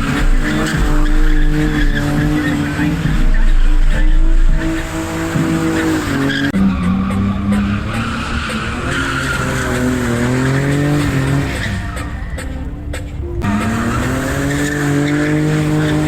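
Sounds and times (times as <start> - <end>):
car engine revving: 0.0 - 16.0
tyres squealing: 0.0 - 16.0.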